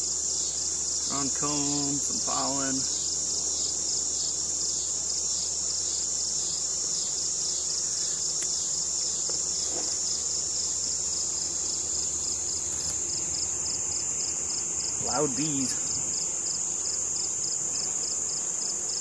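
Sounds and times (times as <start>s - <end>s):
honeybees buzzing: 0.0s - 19.0s
insect chirring: 0.0s - 19.0s.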